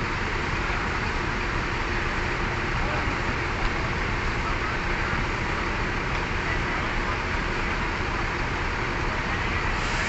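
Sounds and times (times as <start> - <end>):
bus engines rumbling: 0.0 - 10.0
road traffic: 0.0 - 10.0.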